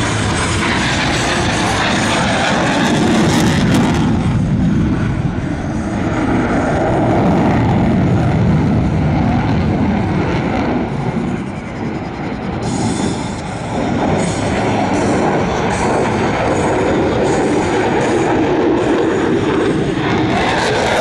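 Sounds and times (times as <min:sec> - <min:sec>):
fighter jet flying by: 0:00.0 - 0:21.0.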